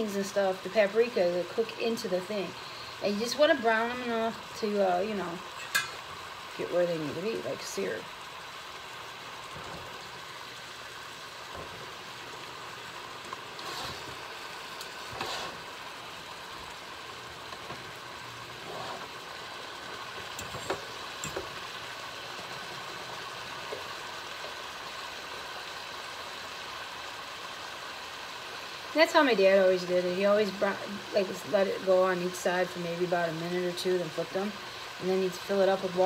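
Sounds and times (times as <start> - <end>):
chicken sizzling in a skillet: 0.0 - 36.0.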